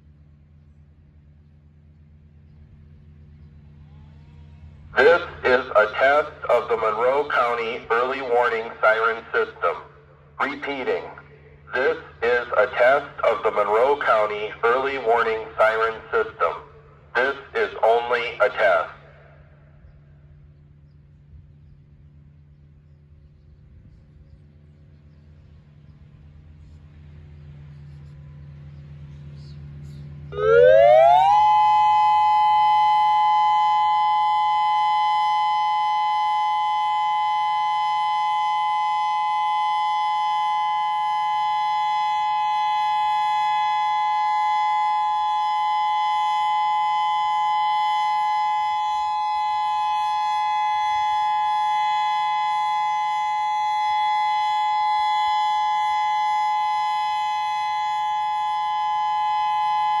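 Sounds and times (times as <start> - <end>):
outdoor warning siren tone: 0.0 - 25.0, 26.1 - 60.0.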